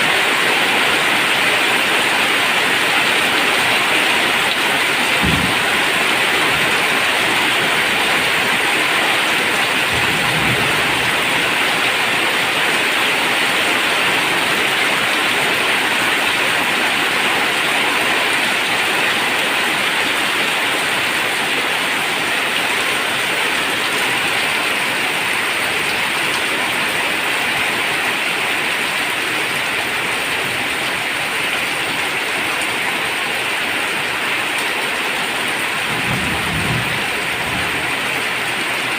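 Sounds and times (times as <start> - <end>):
rain on a tin roof: 0.0 - 38.9.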